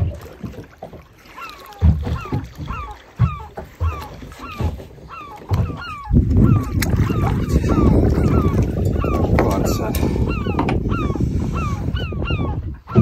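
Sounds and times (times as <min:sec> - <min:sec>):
waves slapping boat hull: 0:00.0 - 0:13.0.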